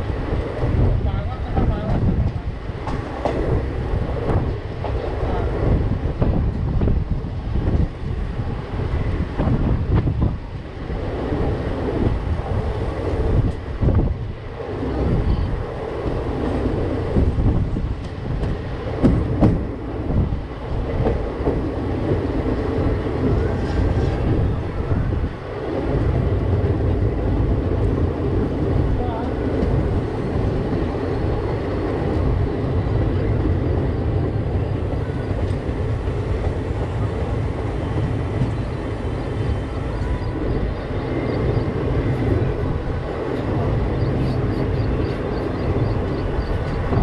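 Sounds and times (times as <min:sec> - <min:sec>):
wheels rumbling on rails: 0:00.0 - 0:47.0.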